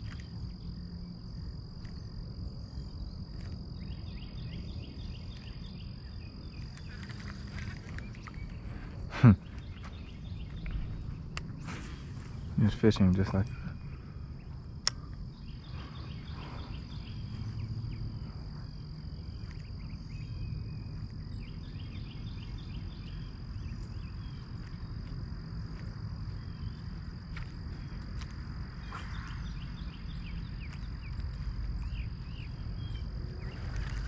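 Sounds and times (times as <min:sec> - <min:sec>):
high insect trill: 0:00.0 - 0:34.0.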